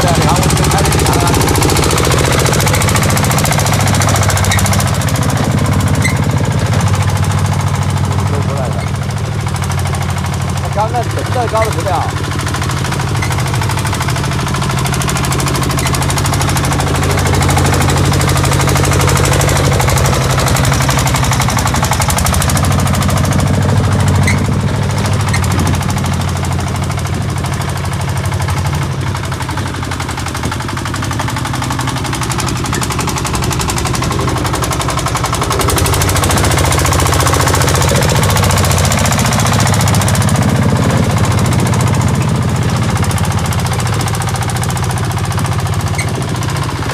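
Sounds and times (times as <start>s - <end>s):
small diesel engine knocking: 0.0s - 46.9s.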